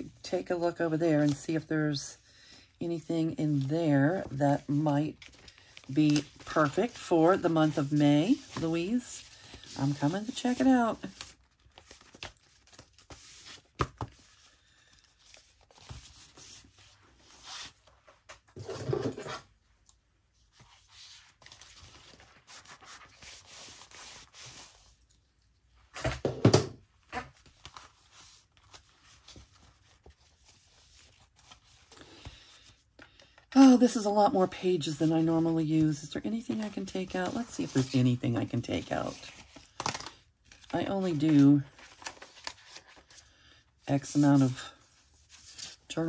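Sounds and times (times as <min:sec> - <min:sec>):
paper pages rustling: 0:02.9 - 0:19.5, 0:20.4 - 0:25.3, 0:27.0 - 0:43.4, 0:44.0 - 0:46.0.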